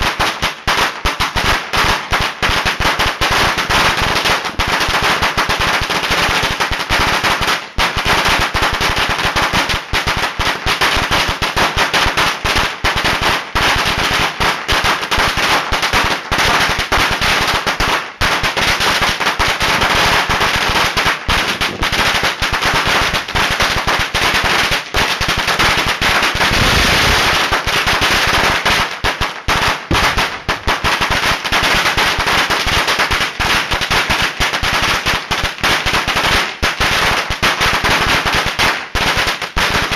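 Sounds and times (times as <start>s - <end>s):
firecrackers exploding: 0.0s - 39.9s.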